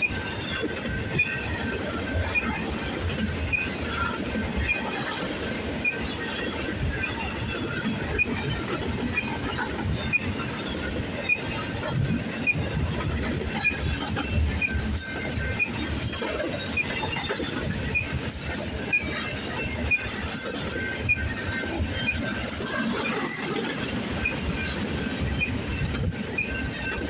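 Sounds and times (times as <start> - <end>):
train wheels rumbling on rail: 0.0 - 27.0
wheels clacking over rail joints: 0.0 - 27.0.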